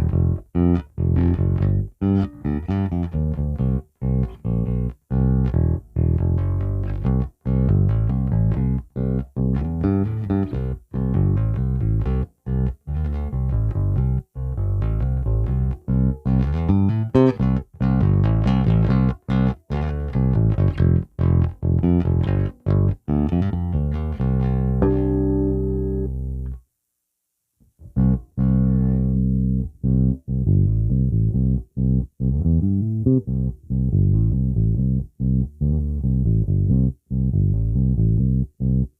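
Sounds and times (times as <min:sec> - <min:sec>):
electric bass plucked notes: 0:00.0 - 0:26.6, 0:27.8 - 0:38.9.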